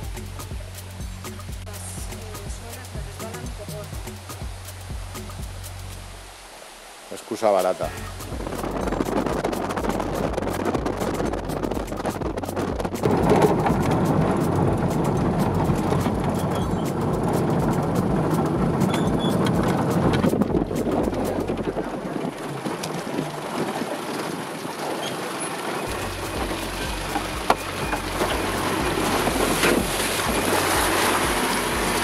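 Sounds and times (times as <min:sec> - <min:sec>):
vehicle engine and road noise: 0:00.0 - 0:07.0, 0:07.6 - 0:32.0.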